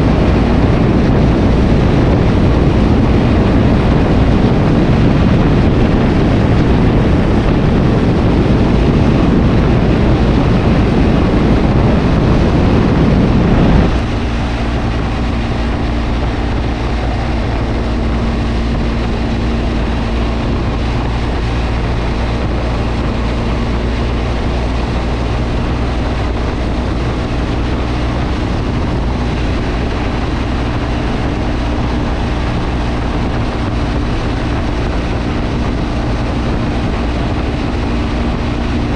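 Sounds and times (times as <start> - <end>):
motorcycle engine drone: 0.0 - 38.9
wind and road rush: 0.0 - 38.9.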